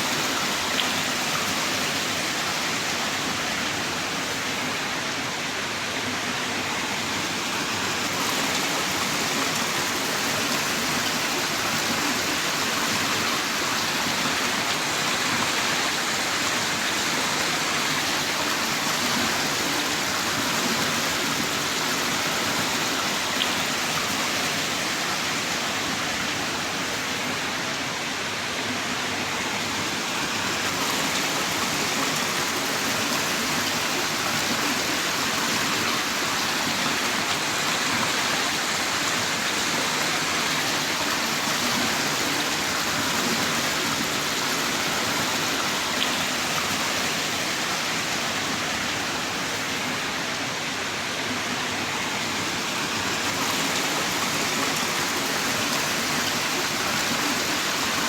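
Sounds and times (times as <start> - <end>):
heavy rain pouring: 6.1 - 58.0.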